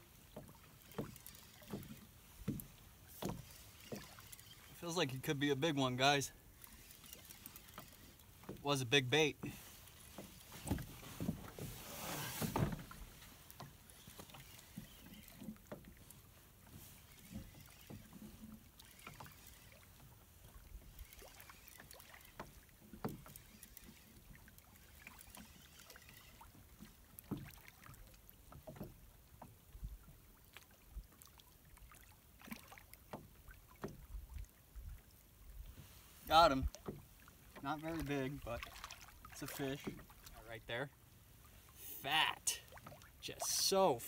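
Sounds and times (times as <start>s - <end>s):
water lapping at hull: 0.0s - 44.0s.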